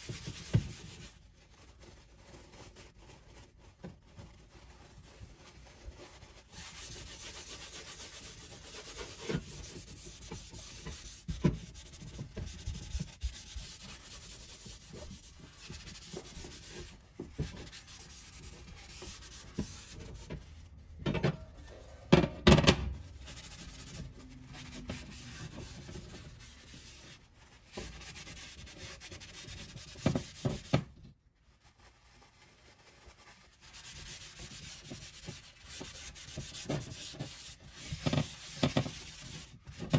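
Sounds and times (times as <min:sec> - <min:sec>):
paper towel wiping griddle: 0:00.0 - 0:20.6, 0:23.0 - 0:30.8, 0:31.6 - 0:39.9.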